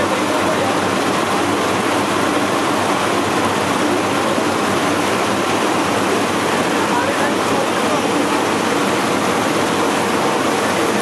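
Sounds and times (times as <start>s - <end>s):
churning splashing water in machine: 0.0s - 11.0s.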